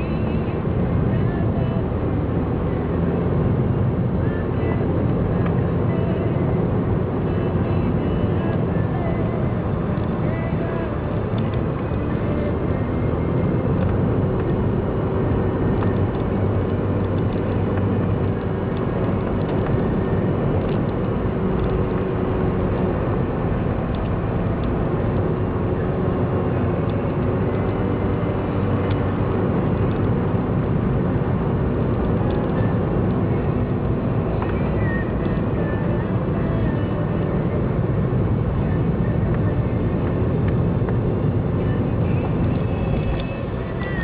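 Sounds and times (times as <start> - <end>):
car engine running: 0.0 - 44.0
road noise: 0.0 - 44.0.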